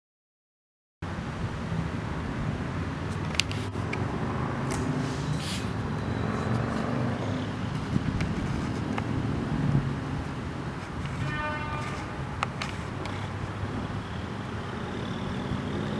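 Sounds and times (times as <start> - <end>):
car engine running: 2.6 - 15.9.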